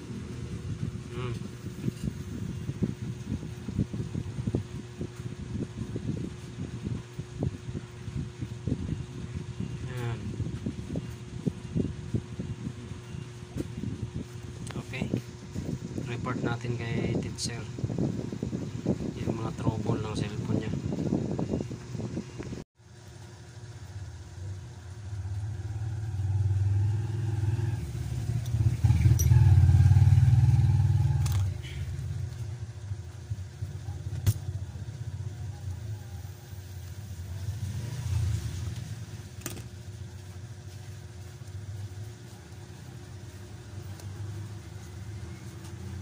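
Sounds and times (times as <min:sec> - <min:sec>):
low engine-like rumble: 0:00.0 - 0:46.0.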